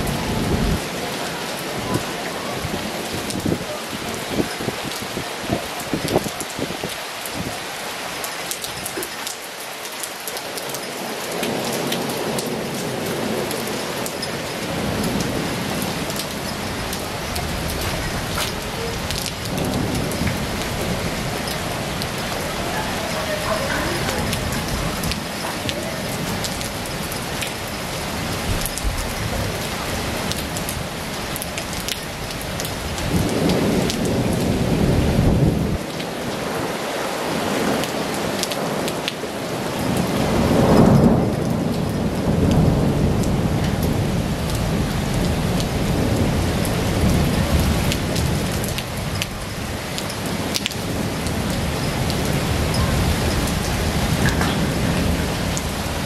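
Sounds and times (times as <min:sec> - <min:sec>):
thunder rumbling: 0:00.0 - 0:07.5, 0:11.5 - 0:37.8, 0:38.5 - 0:56.0
heavy rain: 0:00.0 - 0:56.0.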